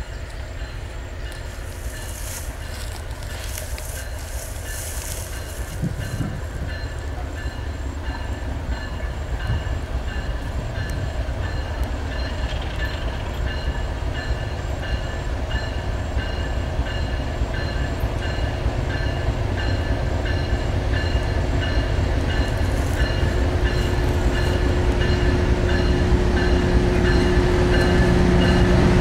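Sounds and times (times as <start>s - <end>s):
freight train engine rumble: 0.0s - 29.0s.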